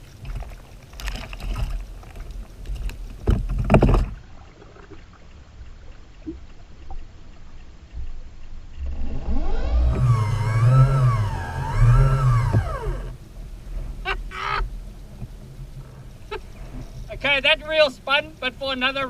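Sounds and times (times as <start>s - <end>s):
water lapping: 0.0s - 19.0s.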